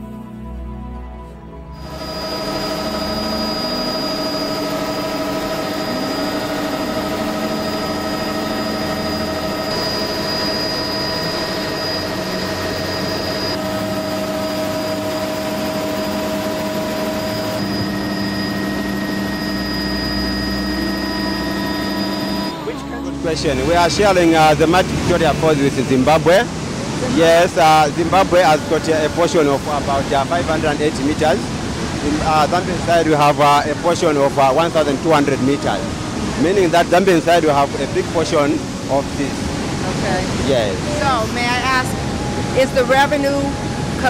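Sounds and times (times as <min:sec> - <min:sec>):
aircraft cabin engine drone: 0:01.4 - 0:44.0.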